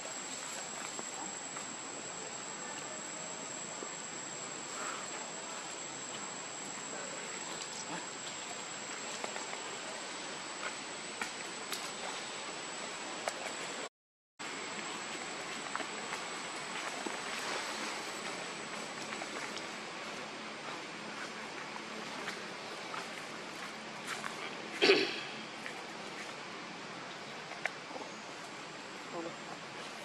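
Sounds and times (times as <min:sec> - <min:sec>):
even hiss: 0:00.0 - 0:30.0.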